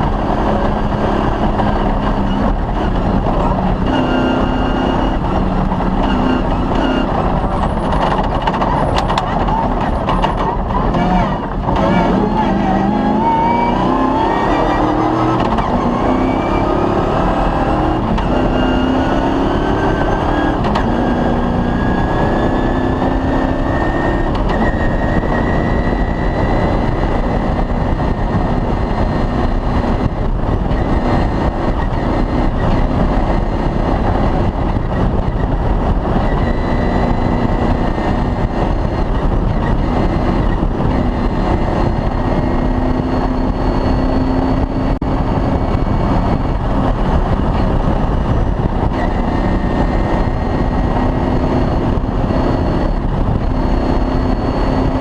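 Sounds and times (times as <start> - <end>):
loud rush of vehicle travel: 0.0 - 55.0
rally car engine revving hard: 0.0 - 55.0.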